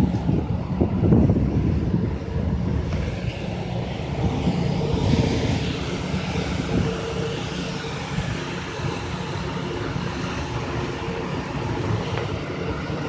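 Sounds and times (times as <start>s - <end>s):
large vehicle engine droning: 0.0s - 13.0s
street traffic noise: 0.0s - 13.0s.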